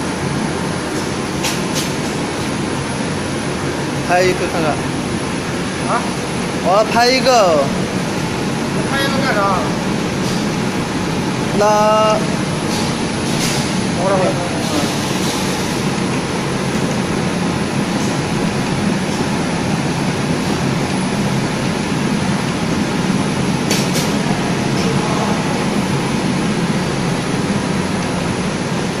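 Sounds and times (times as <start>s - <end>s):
pleating machine running: 0.0s - 29.0s.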